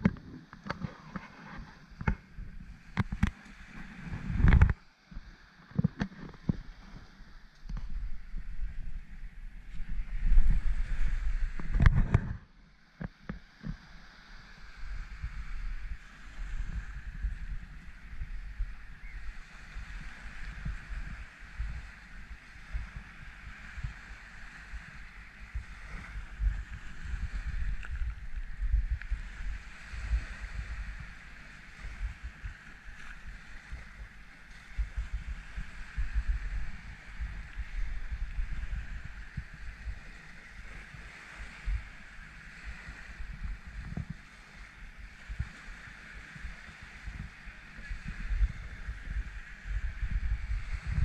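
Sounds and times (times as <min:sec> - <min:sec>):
wind buffeting microphone: 0:00.0 - 0:13.8, 0:14.4 - 0:51.0
waves washing onto shore: 0:00.0 - 0:51.0.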